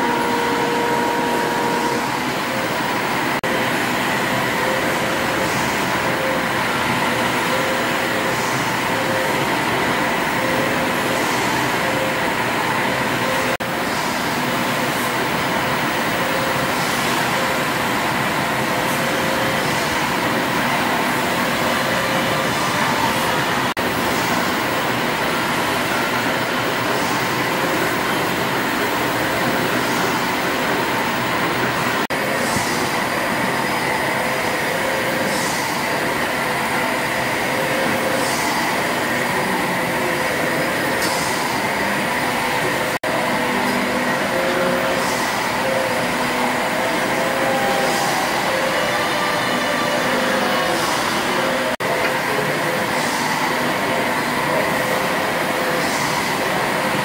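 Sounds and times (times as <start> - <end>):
steam engines clattering and humming: 0.0 - 57.0
high steam hisses: 1.1 - 57.0.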